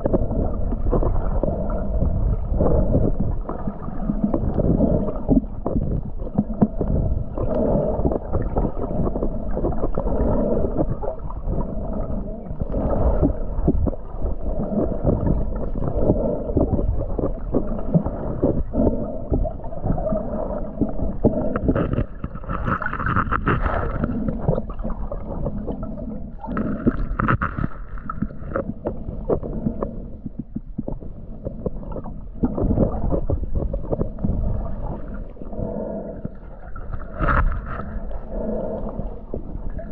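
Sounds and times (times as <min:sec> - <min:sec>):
underwater rush of moving water: 0:00.0 - 0:39.9.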